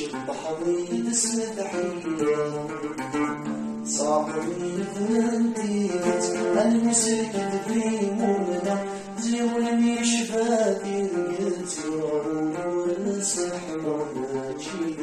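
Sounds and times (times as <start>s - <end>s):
man singing: 0.0s - 15.0s
plucked mandole: 0.0s - 15.0s.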